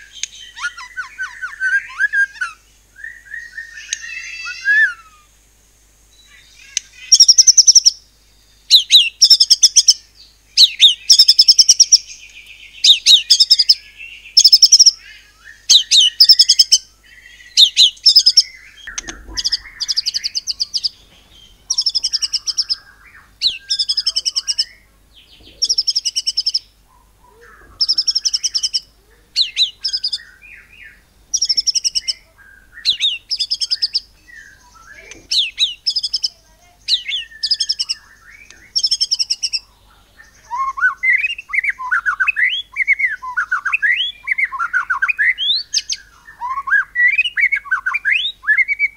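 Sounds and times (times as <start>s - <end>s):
bird singing rapid phrases: 0.0s - 5.3s, 6.1s - 48.9s.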